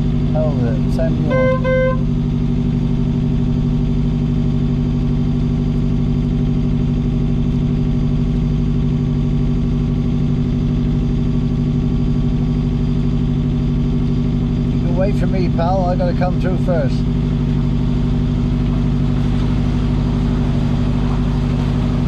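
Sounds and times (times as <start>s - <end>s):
boat engine running at low revs: 0.0s - 22.0s.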